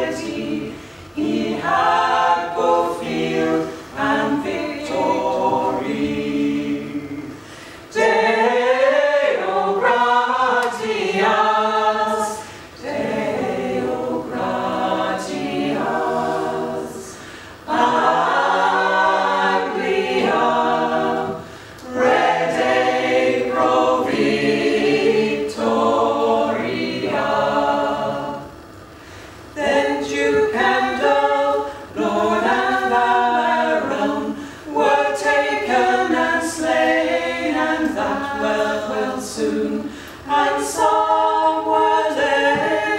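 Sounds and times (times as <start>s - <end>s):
mixed choir singing unaccompanied: 0.0s - 28.8s, 29.5s - 42.9s.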